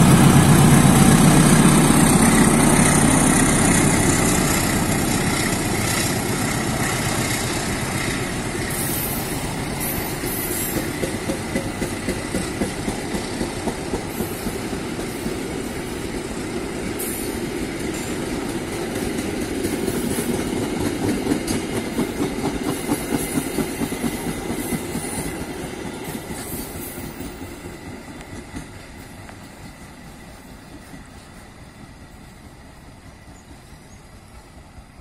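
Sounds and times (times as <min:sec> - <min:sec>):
train wheels clacking: 0:00.0 - 0:35.0.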